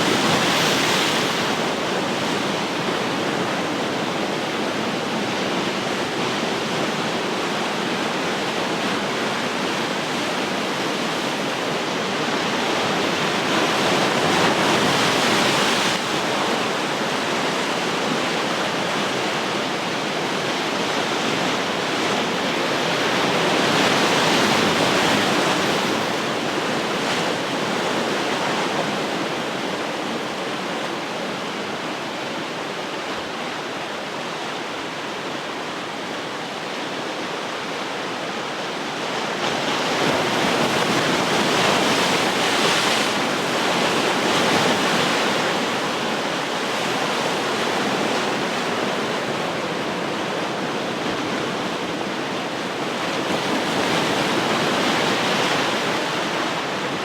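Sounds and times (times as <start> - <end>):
ocean surf roaring: 0.0 - 57.0.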